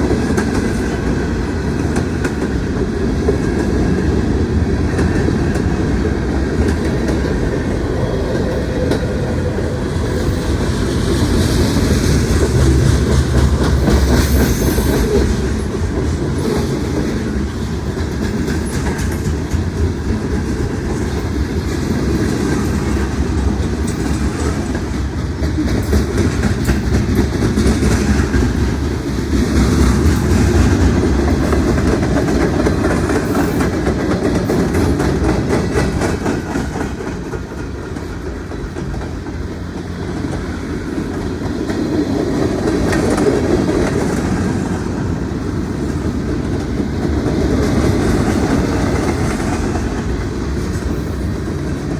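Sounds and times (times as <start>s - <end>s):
freight train wheels rumbling on rails: 0.0s - 51.9s.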